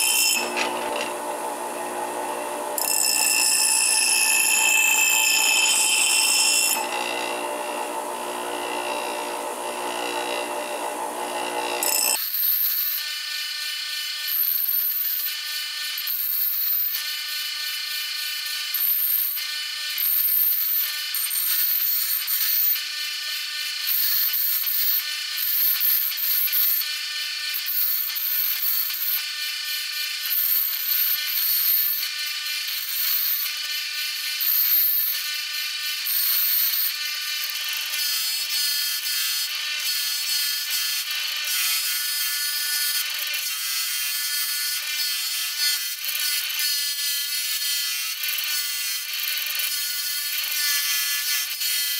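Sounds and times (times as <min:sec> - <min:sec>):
bench grinder grinding metal: 0:00.0 - 0:51.9.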